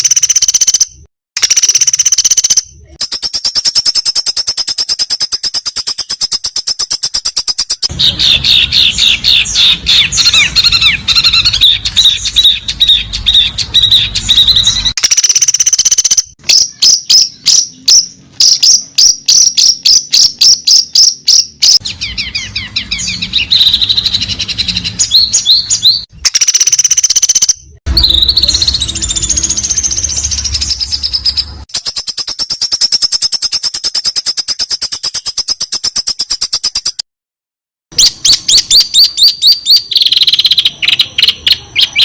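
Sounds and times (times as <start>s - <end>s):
songbird chirps and trills: 0.0s - 37.0s.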